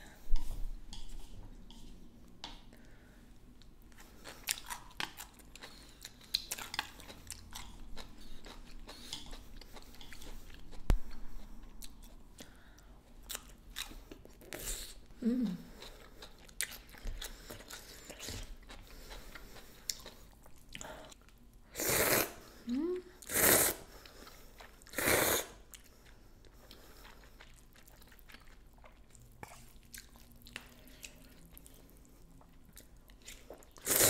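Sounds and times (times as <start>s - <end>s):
person chewing food: 0.4s - 15.0s, 15.6s - 21.5s, 25.6s - 34.0s.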